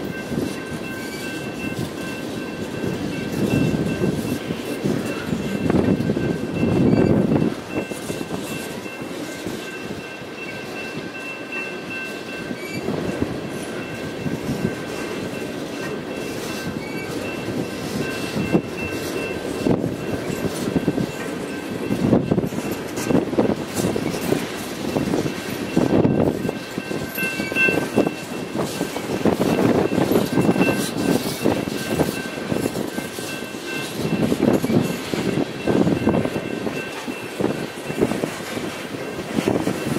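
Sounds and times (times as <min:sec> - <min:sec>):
train rumble: 0:00.0 - 0:39.9
train wheels clacking over rail joints: 0:00.0 - 0:39.9.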